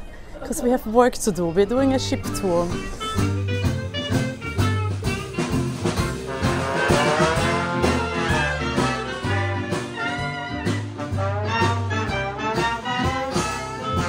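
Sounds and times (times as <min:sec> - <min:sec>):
guitar: 0:01.6 - 0:14.0
double bass: 0:01.8 - 0:14.0
drums: 0:01.8 - 0:14.0
saxophone: 0:02.2 - 0:14.0
trumpet: 0:02.4 - 0:14.0
trombone: 0:02.7 - 0:14.0.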